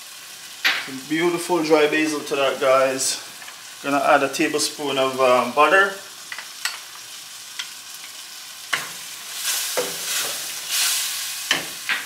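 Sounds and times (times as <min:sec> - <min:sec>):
tomatoes sizzling in a wok: 0:00.0 - 0:12.0.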